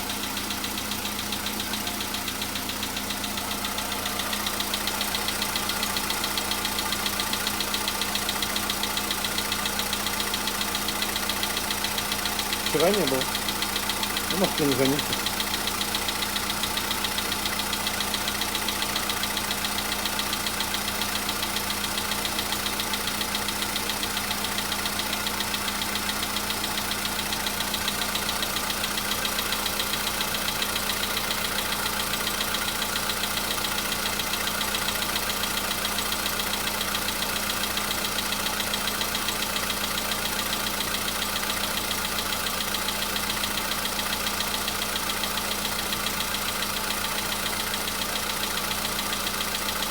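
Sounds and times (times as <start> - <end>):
car engine idling: 0.0 - 49.9
engine tapping: 0.0 - 49.9.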